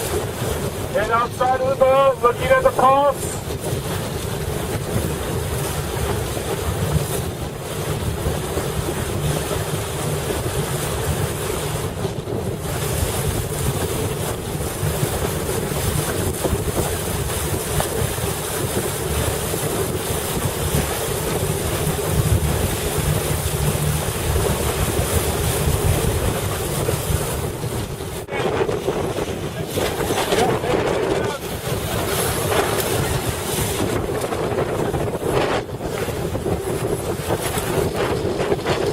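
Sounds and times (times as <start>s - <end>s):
water rushing against boat: 0.0s - 38.9s
wind buffeting microphone: 0.0s - 38.9s.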